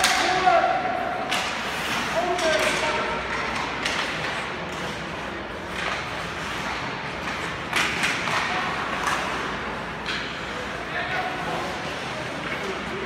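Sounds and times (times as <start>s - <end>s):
skate blades scraping ice: 1.3s - 13.0s.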